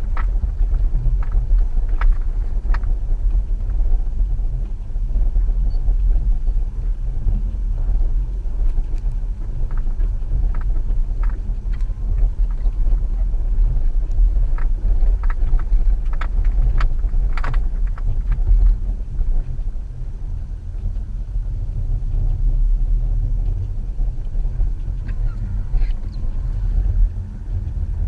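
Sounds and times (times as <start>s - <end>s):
car low rumble: 0.0s - 28.0s.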